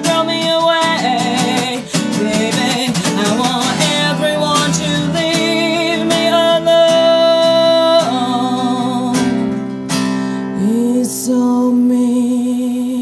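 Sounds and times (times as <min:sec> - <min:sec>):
live bluesy guitar music: 0:00.0 - 0:13.0.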